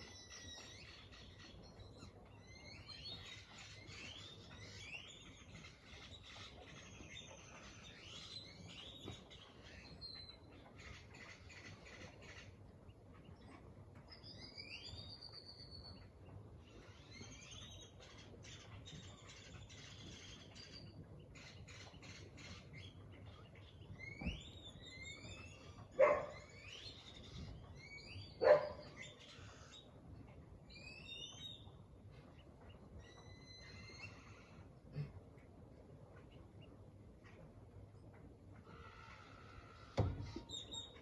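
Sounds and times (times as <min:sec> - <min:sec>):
birds chirping and calling: 0:00.0 - 0:41.0.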